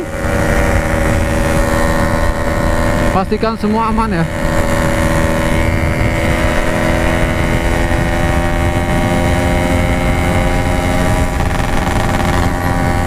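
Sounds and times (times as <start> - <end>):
two-stroke motorcycle cruising: 0.0 - 13.0.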